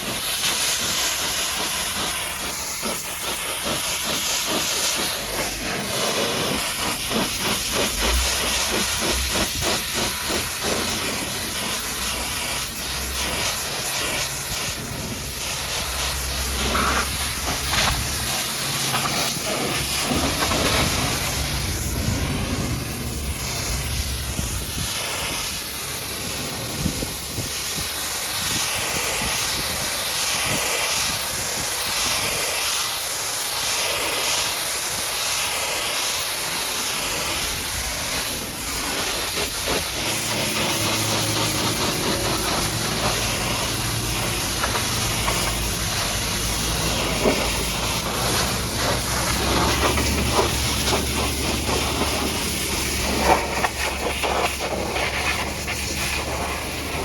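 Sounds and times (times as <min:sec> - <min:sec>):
high-pressure water jet spraying: 0:00.0 - 0:57.0.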